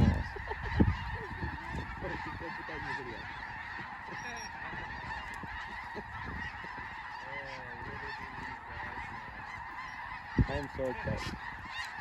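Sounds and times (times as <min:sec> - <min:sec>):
flock of geese honking: 0:00.0 - 0:12.0.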